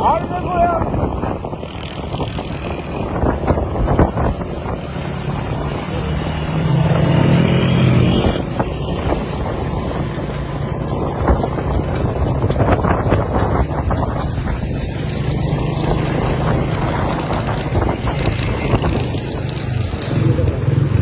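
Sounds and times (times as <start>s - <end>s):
vehicle engine and road noise: 0.0s - 21.0s
wind on microphone: 0.0s - 21.0s.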